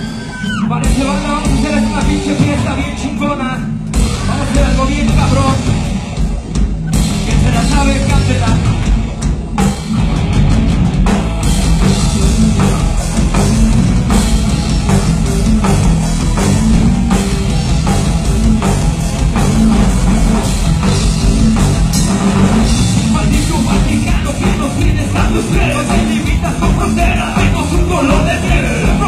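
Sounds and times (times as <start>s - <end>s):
drums hitting steady beat: 0.0s - 29.0s
heavy rock band playing: 0.0s - 29.0s.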